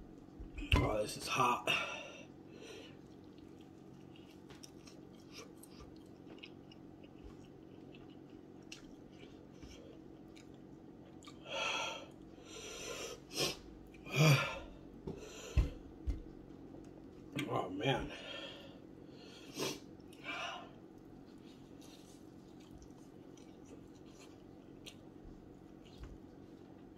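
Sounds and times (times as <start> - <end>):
man chewing: 2.8 - 17.2, 19.2 - 26.9.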